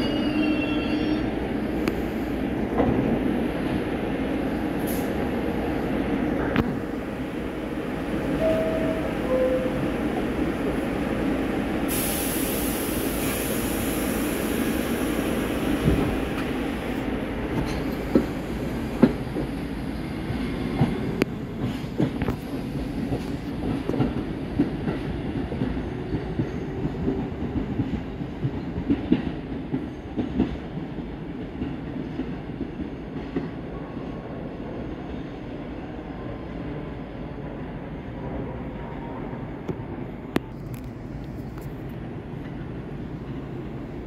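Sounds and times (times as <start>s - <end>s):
subway train rumble: 0.0s - 44.0s.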